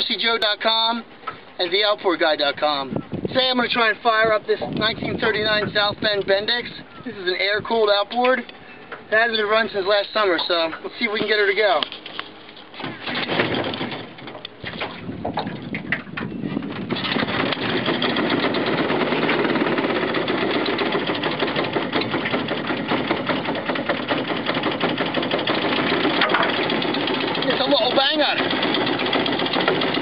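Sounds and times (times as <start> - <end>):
outboard motor sputtering and running: 2.3 - 30.0.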